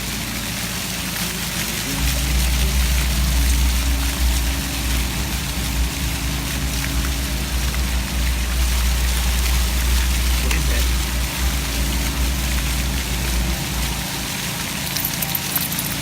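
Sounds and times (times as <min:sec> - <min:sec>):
fountain jets splashing: 0:00.0 - 0:16.0
low rumble: 0:00.0 - 0:16.0.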